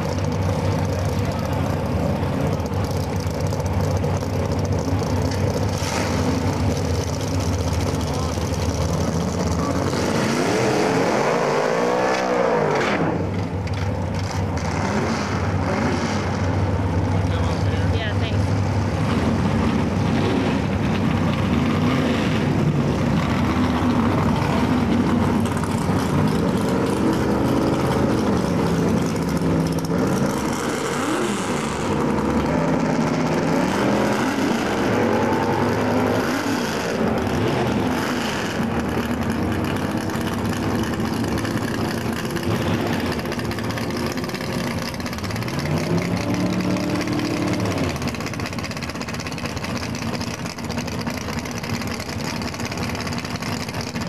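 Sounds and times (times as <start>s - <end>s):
dragster engines revving: 0.0s - 54.0s.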